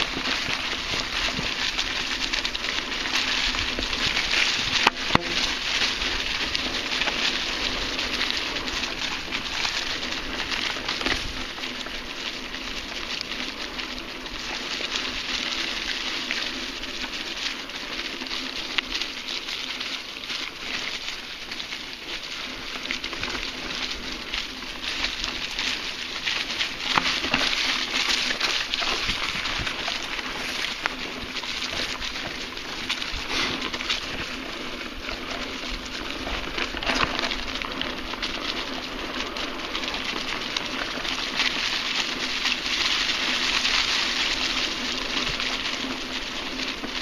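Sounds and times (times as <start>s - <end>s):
bike tyres rolling over dry leaves: 0.0s - 47.0s.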